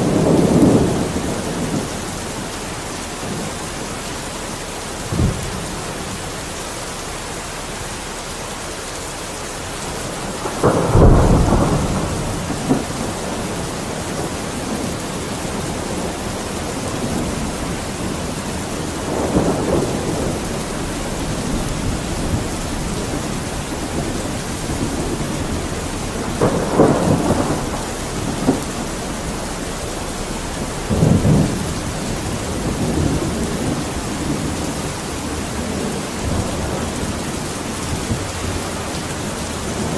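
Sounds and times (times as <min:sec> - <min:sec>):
thunder rumbling: 0:00.0 - 0:08.1, 0:09.5 - 0:39.9
steady rain: 0:00.0 - 0:39.9.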